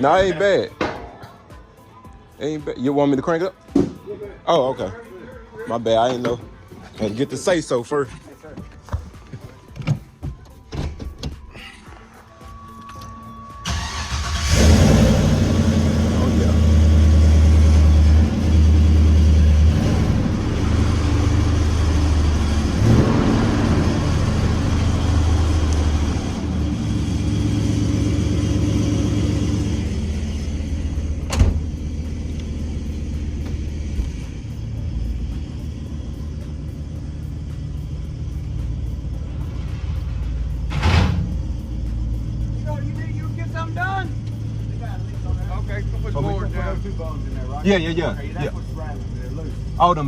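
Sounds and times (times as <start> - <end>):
car engine rumbling: 8.8 - 50.0.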